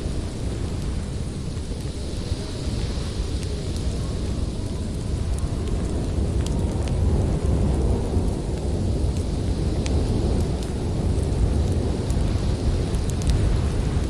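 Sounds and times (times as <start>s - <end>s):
storm wind rumbling: 0.0s - 14.0s
wood fire crackling: 0.0s - 14.0s.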